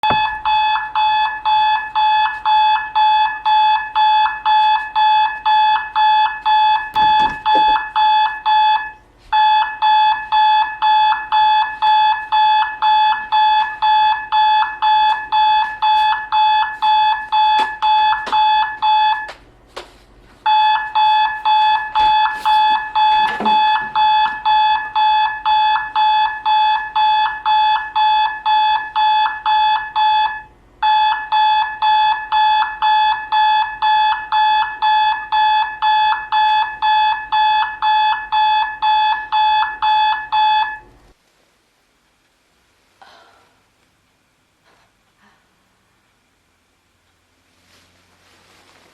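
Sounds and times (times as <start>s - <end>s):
alarm clock beeping: 0.0s - 19.3s, 20.4s - 40.8s.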